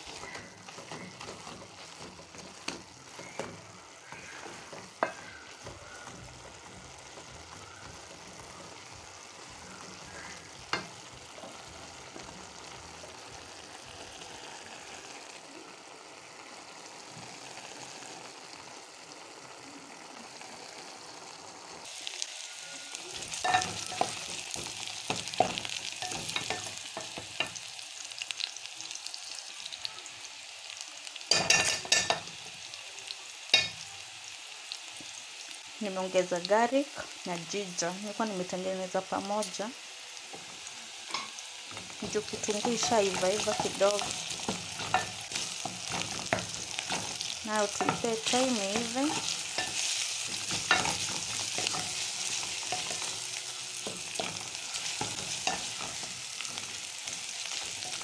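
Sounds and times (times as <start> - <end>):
spinach stirred in a pan: 0.0 - 15.2, 21.2 - 58.0
onions sizzling in hot oil: 0.0 - 58.0.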